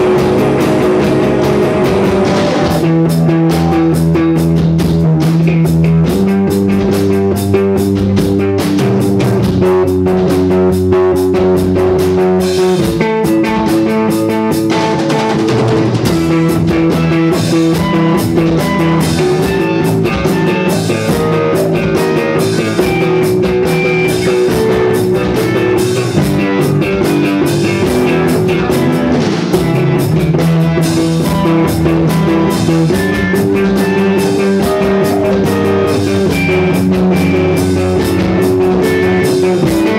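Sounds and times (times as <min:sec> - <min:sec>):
rock music on guitar and drums: 0:00.0 - 0:39.9.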